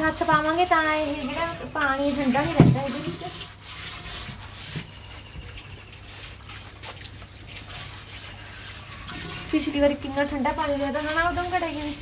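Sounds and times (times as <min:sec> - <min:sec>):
hand rubbing pot: 0:00.0 - 0:12.0.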